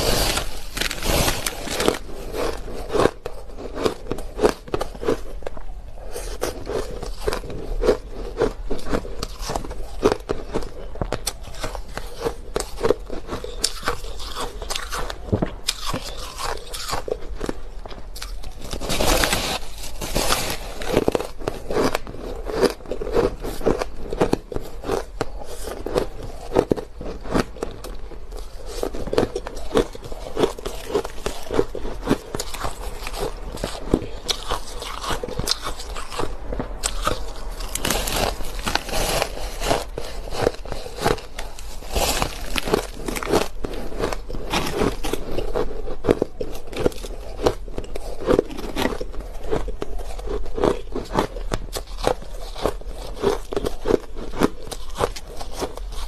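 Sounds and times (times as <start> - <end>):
chewing crushed ice: 0.0 - 56.0.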